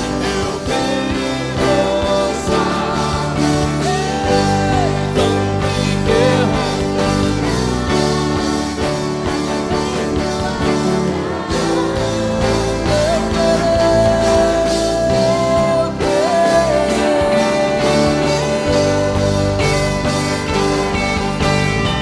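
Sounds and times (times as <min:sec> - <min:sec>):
live worship band music: 0:00.0 - 0:22.0.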